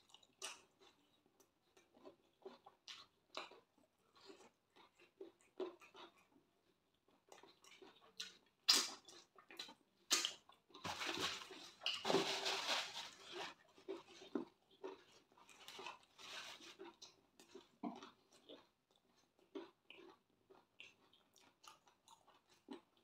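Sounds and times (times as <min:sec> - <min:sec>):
wet chewing mouth sounds: 0:00.0 - 0:10.8, 0:13.3 - 0:23.0.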